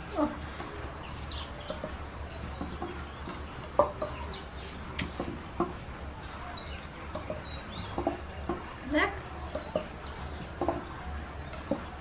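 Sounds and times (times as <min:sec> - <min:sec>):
birds clucking: 0:00.0 - 0:12.0.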